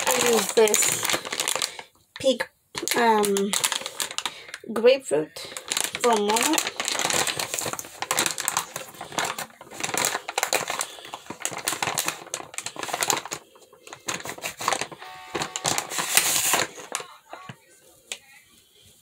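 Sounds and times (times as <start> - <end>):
plastic packet crinkling: 0.0 - 17.7.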